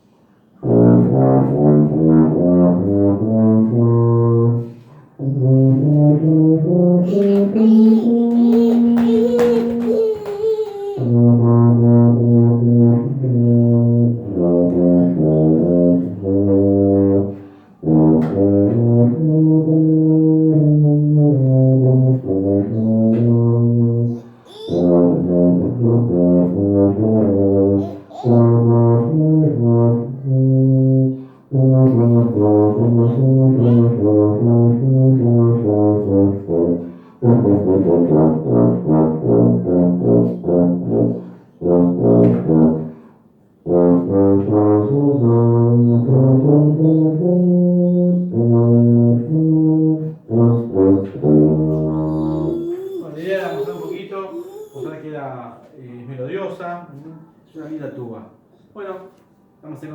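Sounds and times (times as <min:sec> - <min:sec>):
tuba melody: 0:00.5 - 0:09.9, 0:11.0 - 0:54.1.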